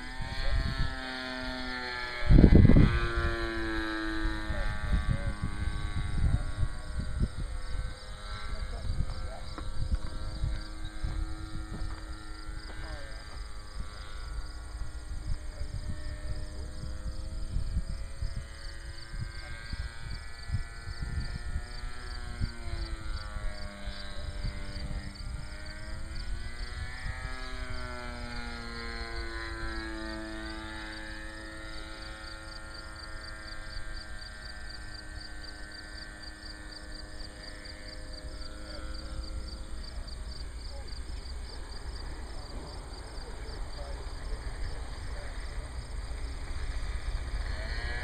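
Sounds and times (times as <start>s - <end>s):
model airplane engine droning: 0.0s - 48.0s
wind buffeting microphone: 0.0s - 48.0s.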